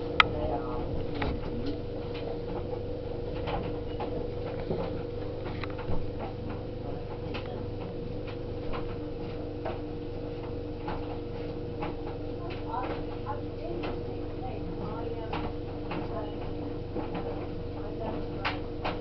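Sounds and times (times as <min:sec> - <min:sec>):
tumble dryer running: 0:00.0 - 0:19.0.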